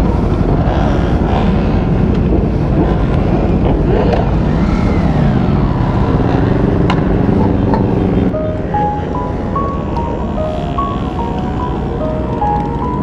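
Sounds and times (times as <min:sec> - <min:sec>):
motorcycle engines revving: 0:00.0 - 0:13.0
wind noise on microphone: 0:00.0 - 0:13.0.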